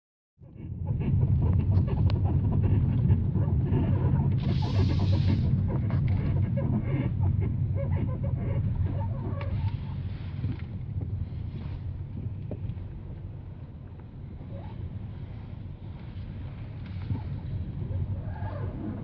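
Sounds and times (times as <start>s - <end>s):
steady low rumble: 0.6s - 19.0s.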